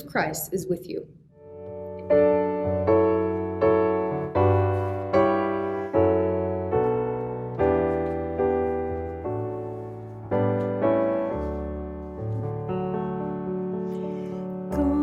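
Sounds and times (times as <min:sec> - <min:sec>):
piano playing slow hymn chords: 0:01.4 - 0:15.0.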